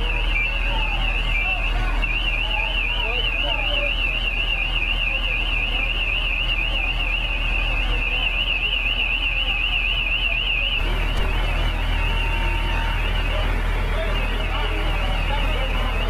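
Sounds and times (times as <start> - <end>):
electronic alarm warbling: 0.0 - 16.0
low engine rumble: 0.0 - 16.0.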